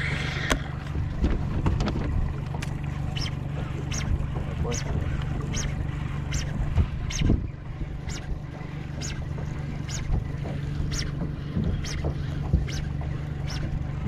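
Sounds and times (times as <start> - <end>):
low engine hum: 0.0 - 14.0
wind rumble: 0.0 - 14.0.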